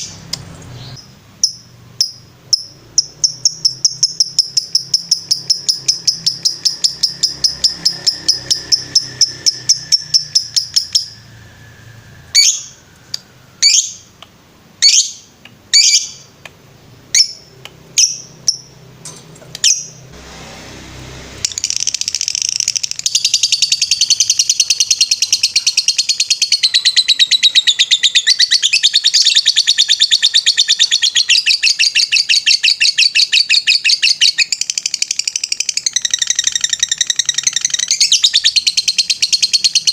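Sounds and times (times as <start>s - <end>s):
lovebird trilling and chirping: 0.0s - 14.2s, 14.8s - 16.4s, 17.1s - 18.8s, 19.6s - 20.0s, 21.4s - 39.9s.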